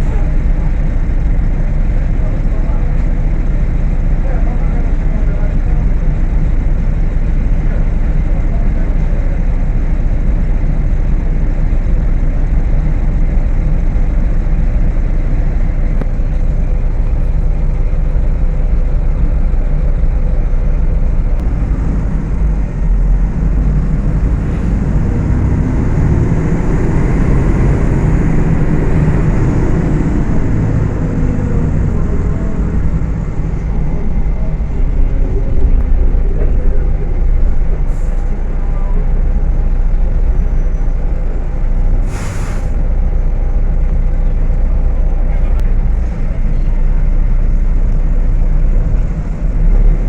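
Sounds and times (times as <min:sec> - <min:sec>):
bus diesel engine droning: 0:00.0 - 0:50.0.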